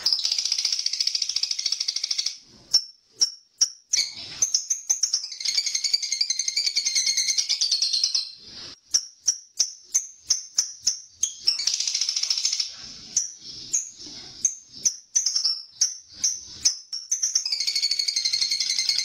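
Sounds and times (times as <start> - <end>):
bird chirping and trilling: 0.0 - 19.0.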